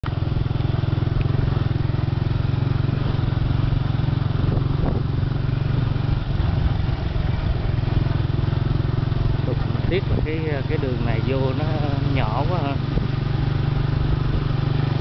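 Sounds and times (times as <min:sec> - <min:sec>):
small motorbike engine humming: 0:00.0 - 0:15.0.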